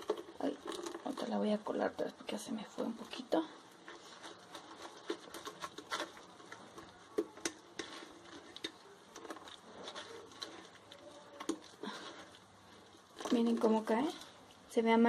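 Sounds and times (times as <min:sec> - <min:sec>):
juice dripping: 0:00.0 - 0:15.0.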